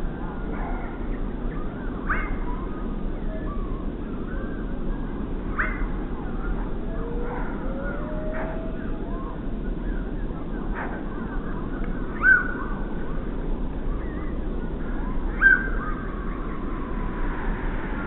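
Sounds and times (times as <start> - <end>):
low background noise: 0.0 - 18.0
wild birds calling: 0.0 - 18.0
downward sweeping bird calls: 0.4 - 18.0.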